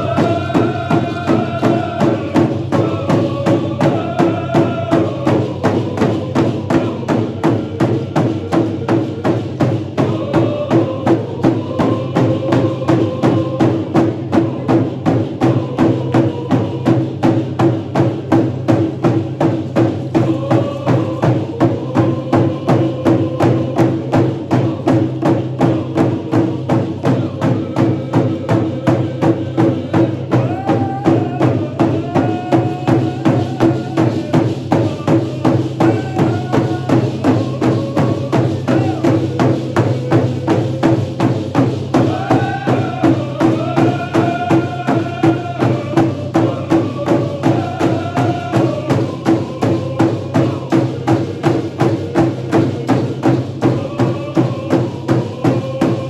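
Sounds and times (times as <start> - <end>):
frame drums beating: 0.0 - 56.0
group of voices singing: 0.0 - 56.0.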